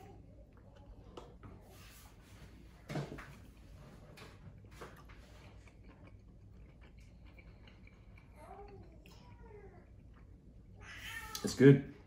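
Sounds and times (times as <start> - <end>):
man chewing food: 0.0 - 10.8.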